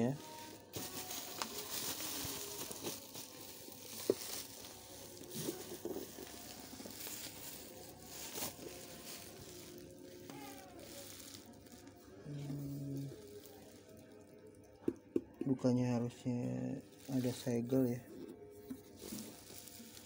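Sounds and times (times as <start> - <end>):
bubble wrap crinkling: 0.0 - 14.7, 16.7 - 20.0.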